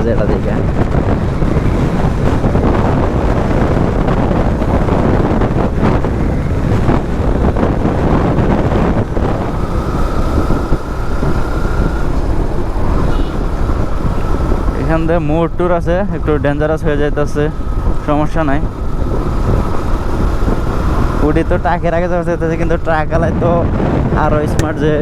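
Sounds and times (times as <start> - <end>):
motorcycle engine: 0.0 - 25.0
road noise: 0.0 - 25.0
wind rushing over microphone: 0.0 - 25.0.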